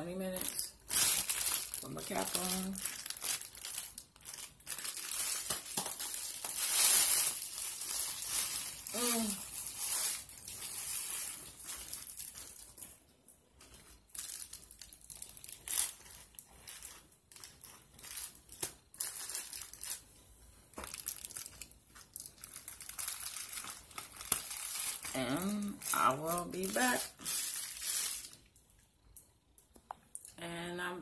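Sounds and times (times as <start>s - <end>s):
foil cap rustling and crackling: 0.3s - 28.6s.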